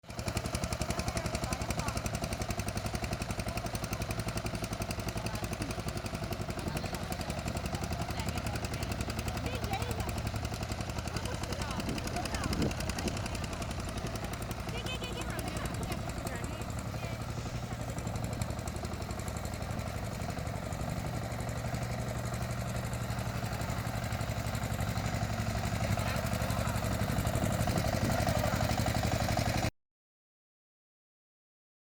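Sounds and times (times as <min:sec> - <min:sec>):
small tractor engine chugging: 0:00.0 - 0:29.7.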